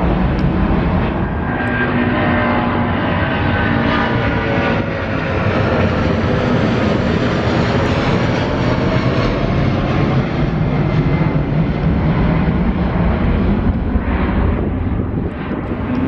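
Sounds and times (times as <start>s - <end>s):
jet airliner taking off: 0.0s - 16.0s.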